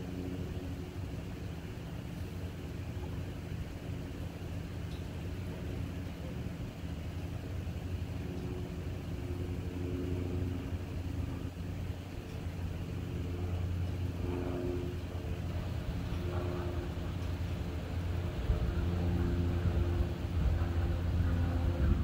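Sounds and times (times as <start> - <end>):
faint hums: 0.0 - 22.0
freight train rumble: 0.0 - 22.0.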